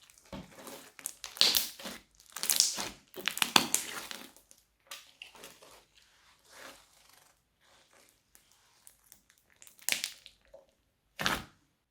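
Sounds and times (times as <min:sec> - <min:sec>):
crunchy slime crinkling and crackling: 0:00.0 - 0:05.9, 0:06.6 - 0:10.6.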